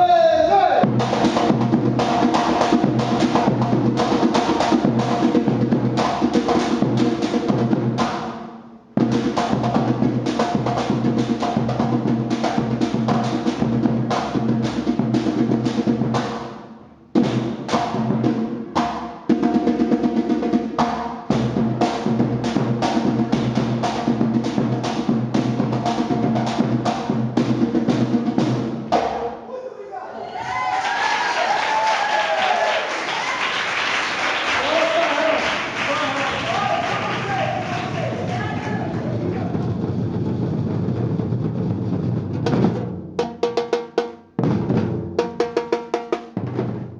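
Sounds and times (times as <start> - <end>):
percussion group drumming: 0.8 - 29.4, 31.7 - 46.9.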